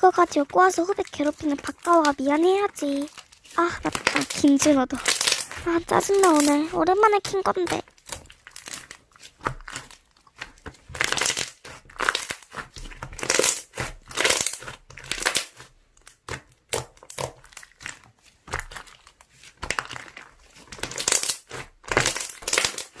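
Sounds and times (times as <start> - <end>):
slime squishing by hand: 0.0 - 23.0.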